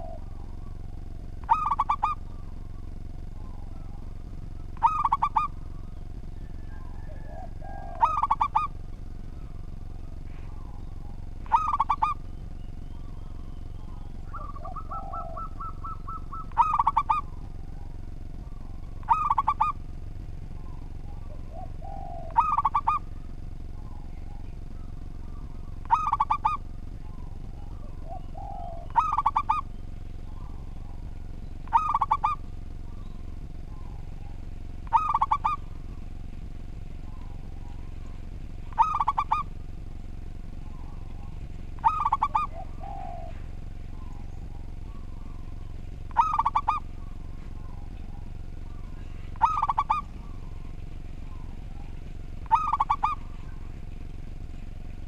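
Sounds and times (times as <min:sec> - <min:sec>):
dove cooing: 0:00.0 - 0:55.0
faint background hum: 0:00.0 - 0:55.0.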